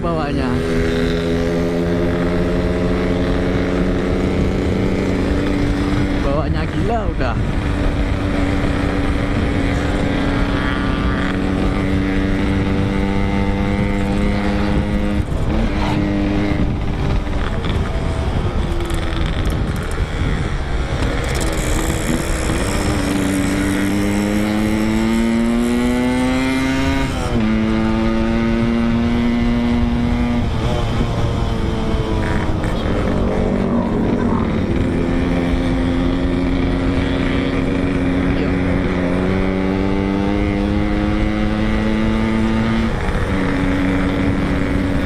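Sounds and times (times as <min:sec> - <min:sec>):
two-stroke motorcycle engine: 0:00.0 - 0:45.0.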